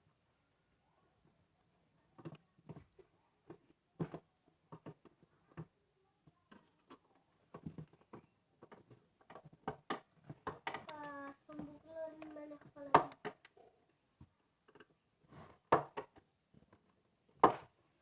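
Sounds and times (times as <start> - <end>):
faint clicks and knocks of handling: 2.1 - 18.0.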